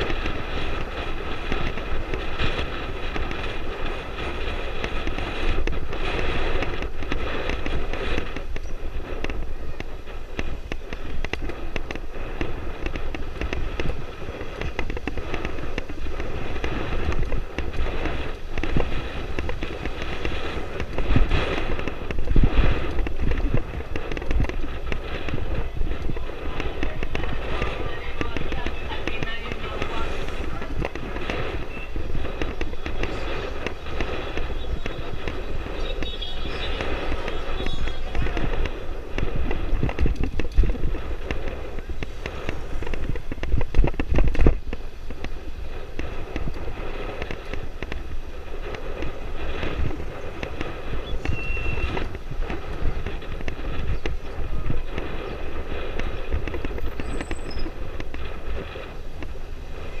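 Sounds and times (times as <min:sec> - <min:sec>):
dirt bike engine popping: 0:00.0 - 1:00.0.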